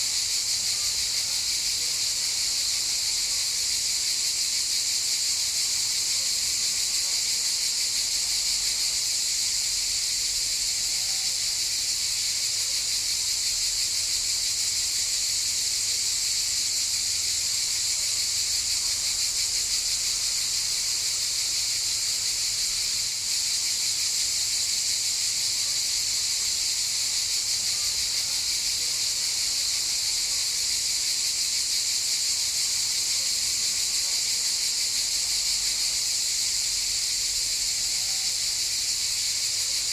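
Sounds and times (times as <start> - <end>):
cicadas buzzing: 0.0 - 5.7, 6.4 - 39.9.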